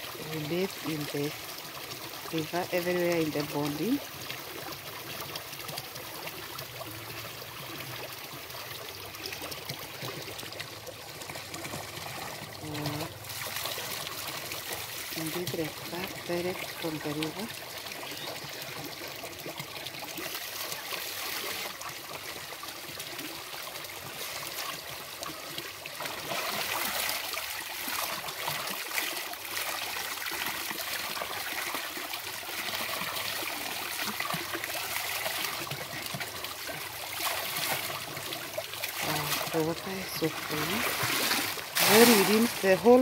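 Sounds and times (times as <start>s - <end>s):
water pouring and splashing: 0.0s - 43.0s.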